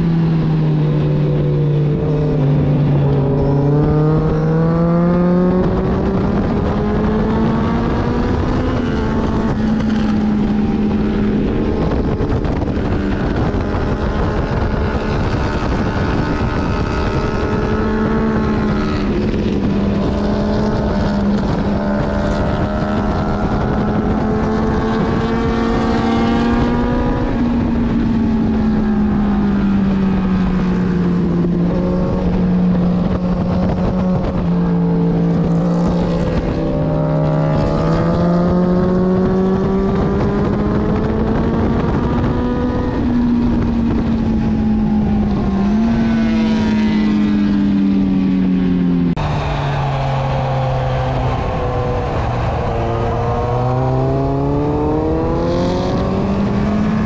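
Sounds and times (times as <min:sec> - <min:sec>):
motorcycle engine revving: 0:00.0 - 0:57.0
wind rushing over microphone: 0:00.0 - 0:57.0.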